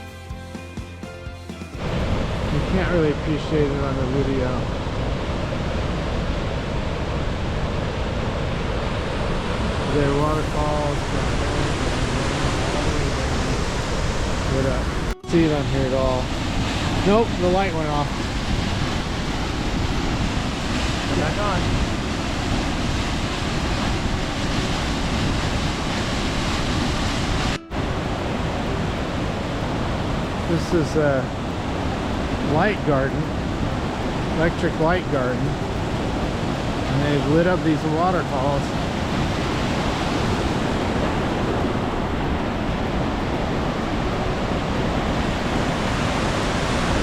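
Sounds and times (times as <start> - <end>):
waterfall roaring: 1.8 - 47.0.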